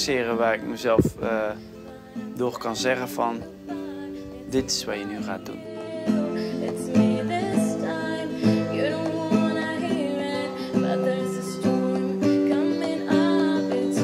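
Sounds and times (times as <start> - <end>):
acoustic guitar: 0.0 - 14.0
person singing: 0.0 - 14.0.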